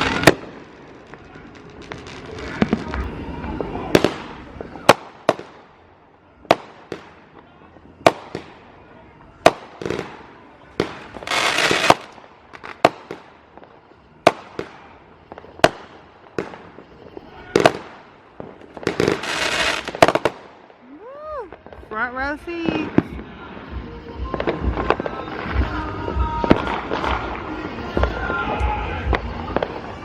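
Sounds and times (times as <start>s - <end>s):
firecracker crackling bursts: 0.0s - 30.0s
firework bangs: 0.0s - 30.0s.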